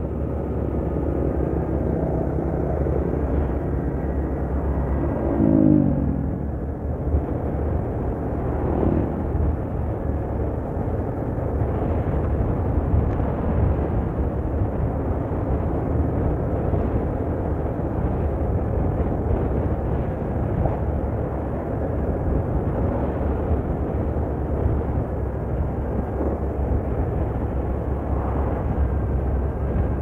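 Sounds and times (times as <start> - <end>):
deep engine drone: 0.0 - 30.0
road and wind noise: 0.0 - 30.0.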